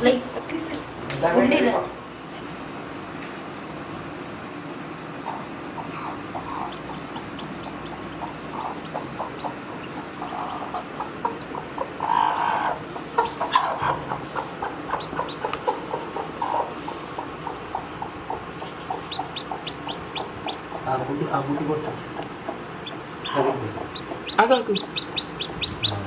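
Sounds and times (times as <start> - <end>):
chickens clucking: 4.3 - 26.0.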